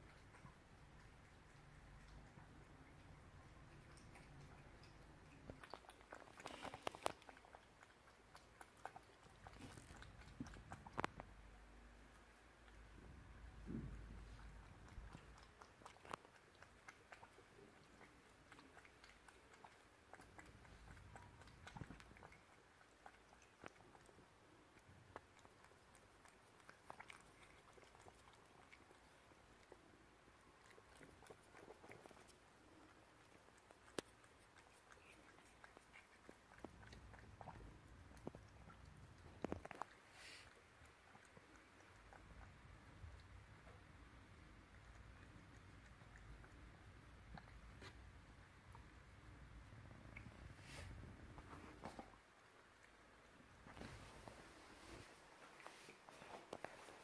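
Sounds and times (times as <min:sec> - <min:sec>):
cat licking and eating: 0:00.0 - 0:57.0.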